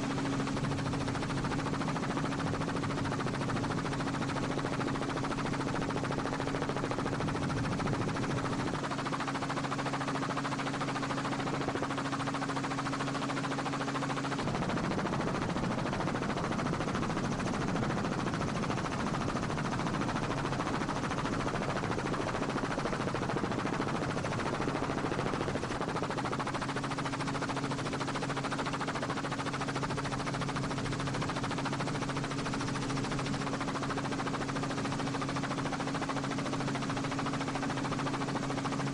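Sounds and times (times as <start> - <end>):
helicopter rotor noise: 0.0 - 38.9.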